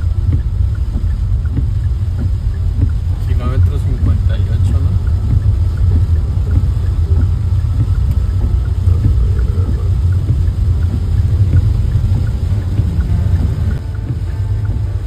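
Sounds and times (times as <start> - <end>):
car road and engine rumble: 0.0 - 15.0
faint ticks: 0.0 - 15.0
rain hitting car: 0.0 - 15.0.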